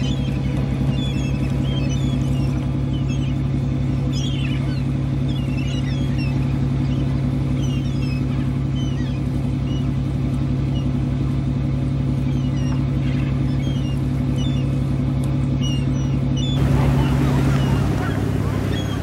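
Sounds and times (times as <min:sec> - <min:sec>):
birds chirping: 0:00.0 - 0:19.0
boat engine droning: 0:00.0 - 0:19.0.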